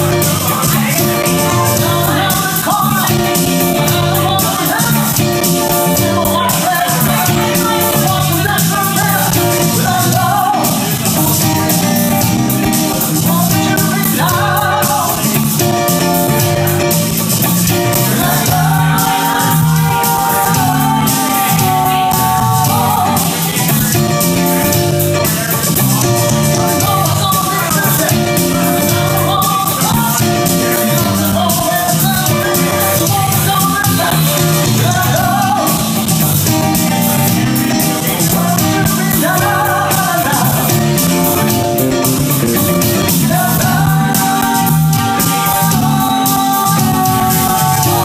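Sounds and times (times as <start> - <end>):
live rock band playing: 0.0 - 48.0
woman singing lead vocal: 0.0 - 48.0.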